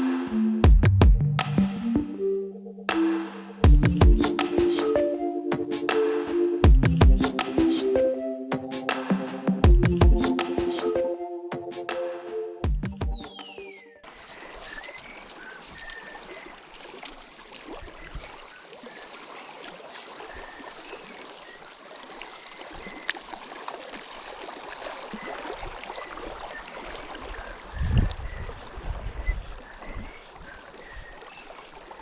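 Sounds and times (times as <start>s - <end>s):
water lapping and trickling: 2.9s - 32.0s.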